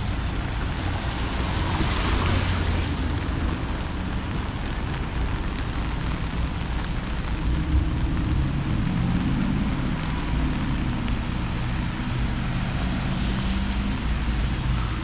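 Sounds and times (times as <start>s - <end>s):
rain hiss: 0.0s - 15.0s
wind: 0.0s - 15.0s.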